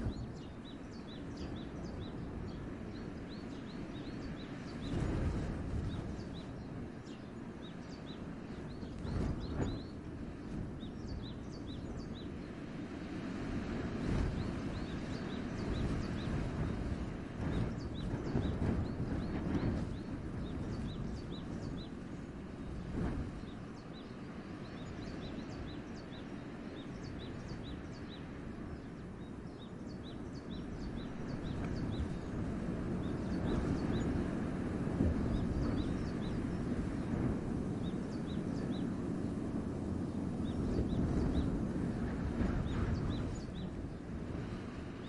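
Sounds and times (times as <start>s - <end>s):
small birds chirping: 0.0s - 12.8s, 14.1s - 34.4s, 35.0s - 41.7s, 42.3s - 45.0s
wind blowing through forest: 0.0s - 45.0s.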